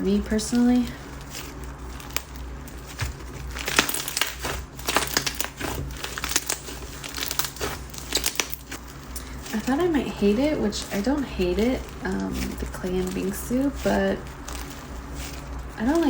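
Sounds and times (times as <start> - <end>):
slime beads crunching: 0.0 - 16.0.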